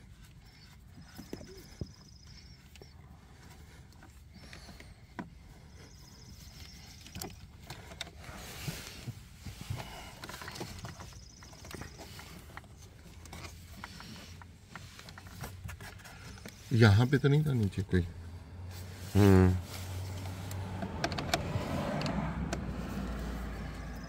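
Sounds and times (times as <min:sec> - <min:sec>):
rustling: 0:00.0 - 0:20.8.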